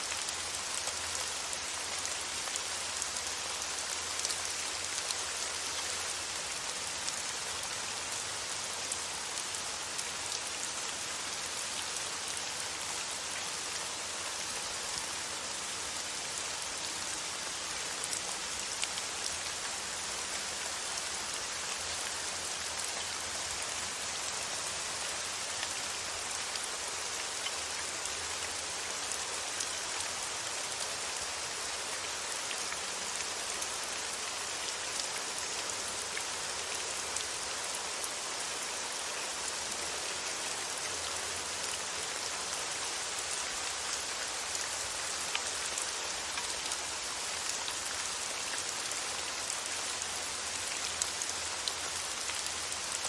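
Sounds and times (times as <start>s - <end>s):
rain pattering on a surface: 0.0s - 53.0s.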